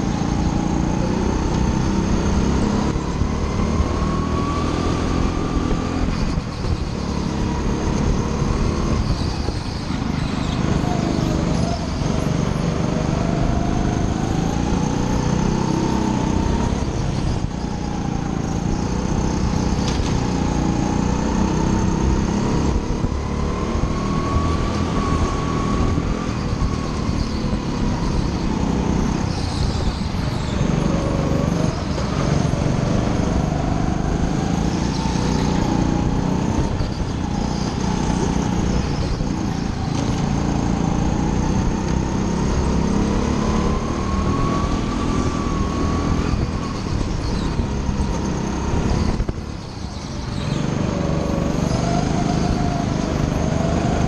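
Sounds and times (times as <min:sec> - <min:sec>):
go-kart motor whining: 0:00.0 - 0:54.0
wind rumble on camera: 0:00.0 - 0:54.0.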